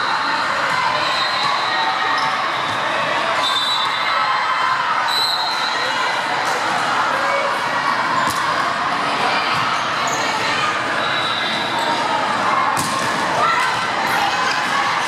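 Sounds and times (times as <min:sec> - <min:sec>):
hubbub of voices: 0:00.0 - 0:15.0.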